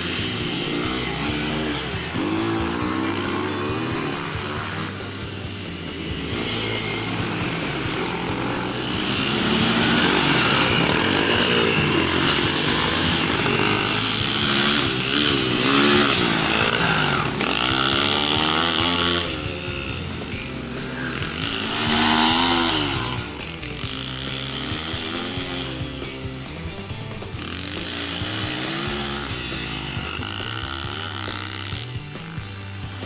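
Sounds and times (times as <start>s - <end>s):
dirt bike engines revving: 0.0s - 33.0s.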